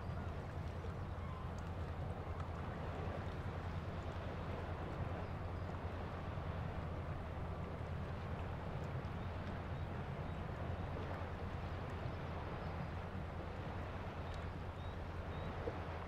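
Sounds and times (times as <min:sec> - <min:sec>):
ship engine rumble: 0:00.0 - 0:16.0.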